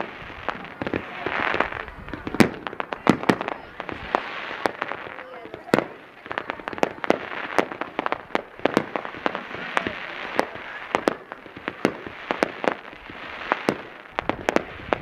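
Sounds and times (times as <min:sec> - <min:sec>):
fireworks bangs and pops: 0:00.0 - 0:15.0
fireworks crackle: 0:00.0 - 0:15.0.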